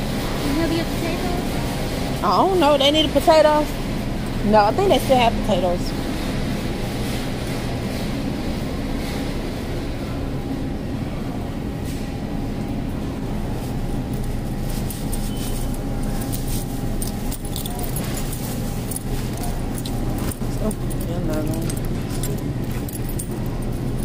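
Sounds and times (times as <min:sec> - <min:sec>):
low store hum: 0:00.0 - 0:24.0.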